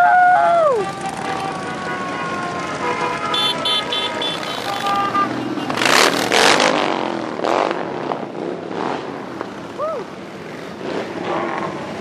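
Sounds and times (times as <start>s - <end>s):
motorcycles passing: 0.0s - 12.0s.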